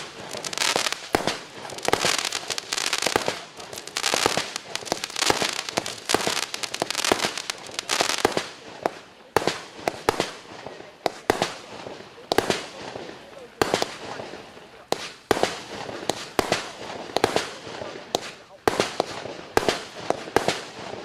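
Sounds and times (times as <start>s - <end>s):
fireworks crackling: 0.0s - 21.0s
fireworks shots firing: 0.0s - 21.0s.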